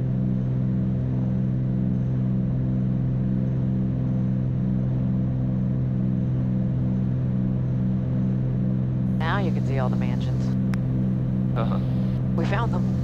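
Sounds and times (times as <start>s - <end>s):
propeller aircraft engines droning: 0.0s - 13.0s.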